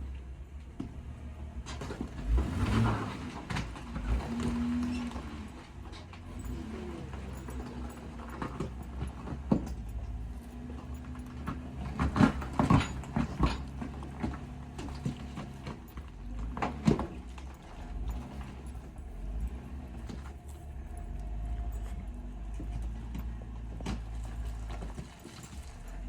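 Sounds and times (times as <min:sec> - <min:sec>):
engine running at crawling speed: 0:00.0 - 0:26.0.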